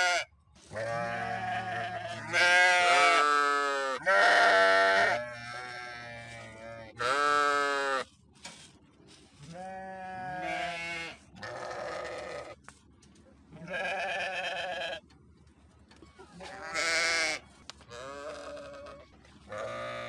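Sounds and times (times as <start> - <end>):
sheep bleating: 0.0 - 8.1, 9.4 - 12.6, 13.6 - 15.0, 16.4 - 20.0.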